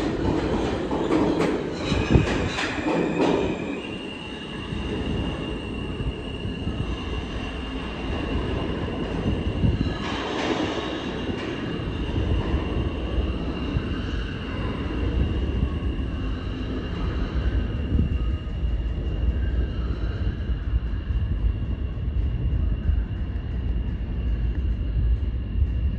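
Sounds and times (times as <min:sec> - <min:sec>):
wheels rumbling on rail: 0:00.0 - 0:04.0, 0:04.6 - 0:25.9
rush of train noise: 0:00.0 - 0:25.9.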